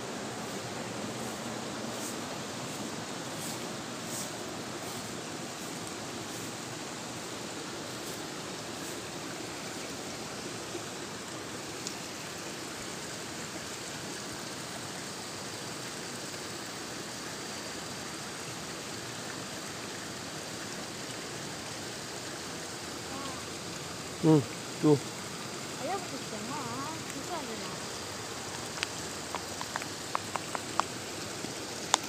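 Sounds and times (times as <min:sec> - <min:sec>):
water rushing through channel: 0:00.0 - 0:32.0.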